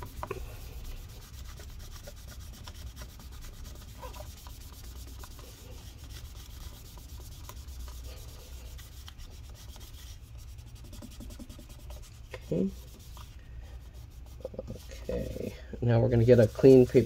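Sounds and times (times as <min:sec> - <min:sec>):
paper towel scrubbing metal: 0:00.0 - 0:17.0.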